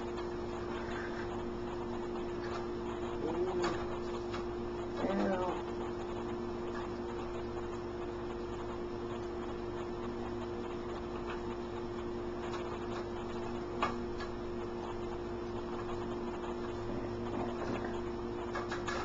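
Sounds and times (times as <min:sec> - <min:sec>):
steady stove hum: 0:00.0 - 0:19.0.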